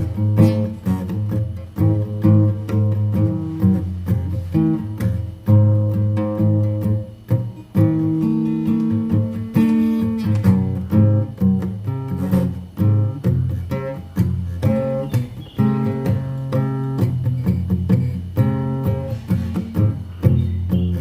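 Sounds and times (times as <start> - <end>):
acoustic guitar picking and strumming: 0.0 - 21.0
bass line: 0.0 - 21.0.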